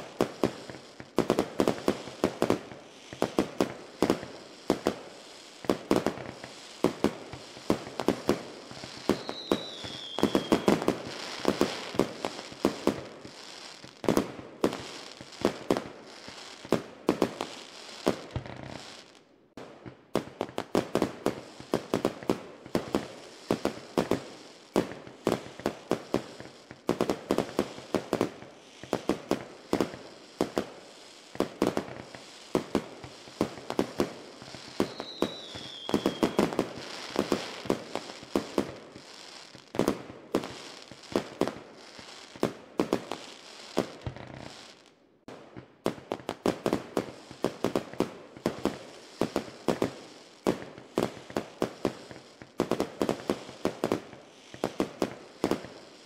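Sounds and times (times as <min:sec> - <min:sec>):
fireworks cracking and popping: 0:00.0 - 0:56.0.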